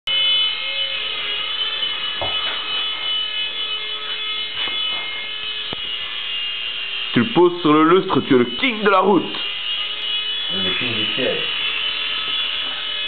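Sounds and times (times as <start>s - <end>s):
toy helicopter rotor whine: 0.1s - 13.0s.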